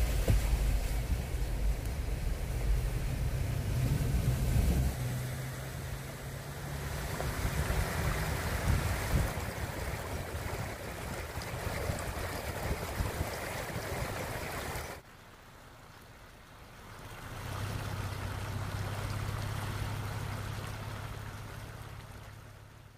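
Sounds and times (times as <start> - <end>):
floodwater rushing down channel: 0.0 - 22.9.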